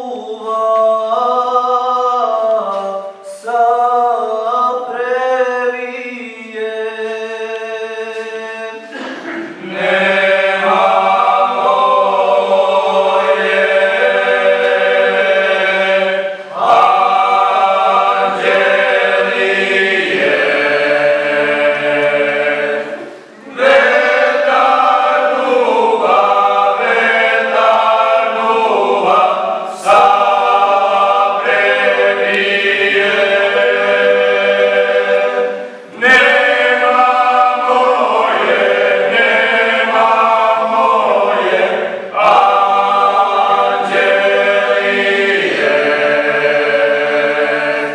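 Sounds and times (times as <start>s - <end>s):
male vocal ensemble singing a cappella: 0.0s - 47.9s.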